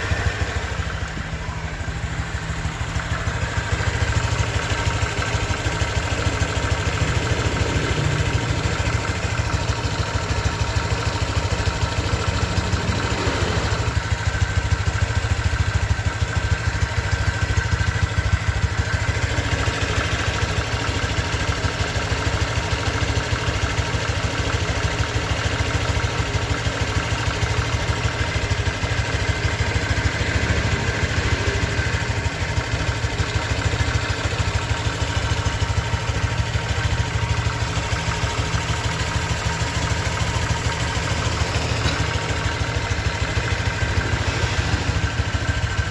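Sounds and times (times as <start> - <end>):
scooter engine idling: 0.0 - 45.9.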